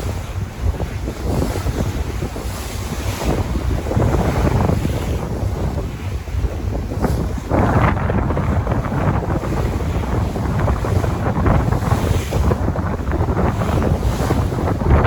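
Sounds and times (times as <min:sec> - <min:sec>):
sea waves and surf: 0:00.0 - 0:15.0
wind buffeting the microphone: 0:00.0 - 0:15.0.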